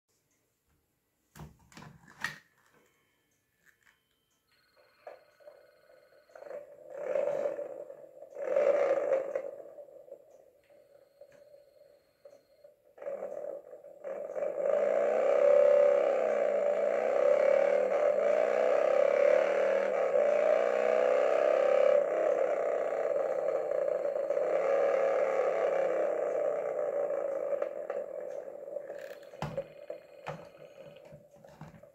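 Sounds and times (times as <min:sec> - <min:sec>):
phone ringer motorcycle revving: 0:03.8 - 0:31.9
sharp clicks: 0:04.0 - 0:31.9.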